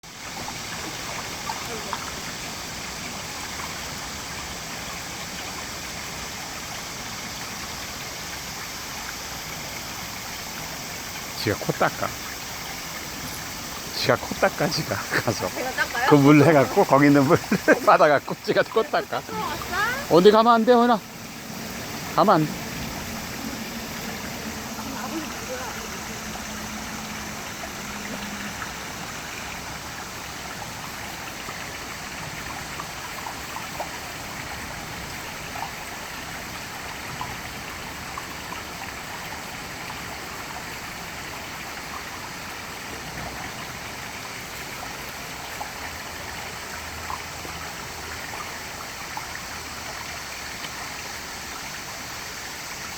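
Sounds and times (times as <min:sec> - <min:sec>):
stream rushing: 0:00.0 - 0:52.9.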